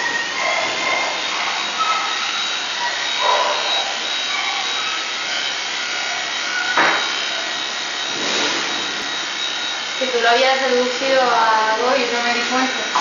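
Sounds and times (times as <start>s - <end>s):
electric clippers whining: 0.0s - 13.0s.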